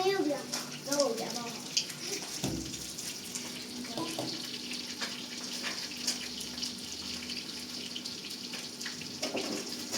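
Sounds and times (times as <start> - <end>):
running water splashing: 0.0 - 9.9.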